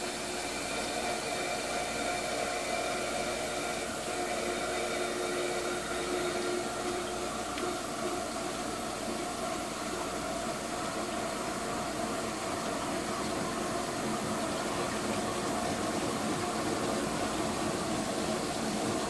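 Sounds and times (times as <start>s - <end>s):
dishwasher motor hum: 0.0s - 19.0s.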